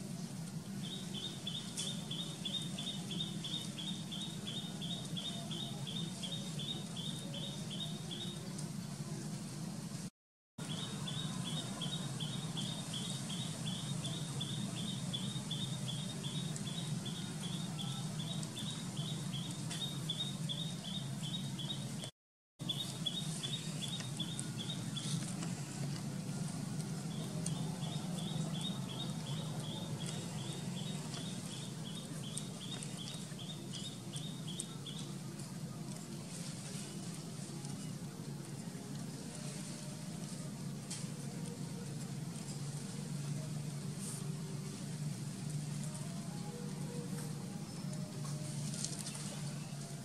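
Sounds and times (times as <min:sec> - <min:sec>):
low background noise: 0:00.0 - 0:50.0.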